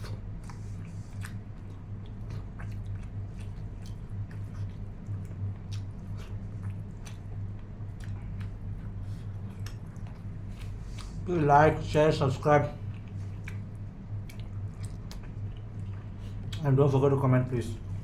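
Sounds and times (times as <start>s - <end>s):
chewing and mouth sounds: 0.0s - 17.1s
steady low hum: 0.0s - 18.0s.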